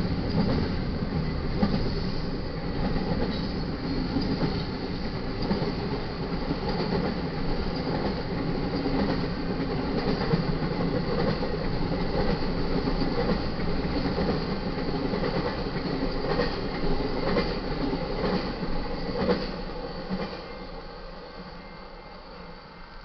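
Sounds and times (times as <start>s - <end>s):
train wheels clacking over rail joints: 0.0s - 20.5s.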